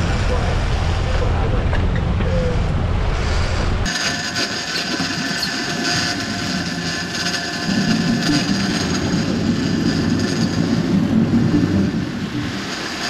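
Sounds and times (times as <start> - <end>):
boat engine running: 0.0 - 13.0
water noise: 0.0 - 13.0
wind: 0.0 - 13.0.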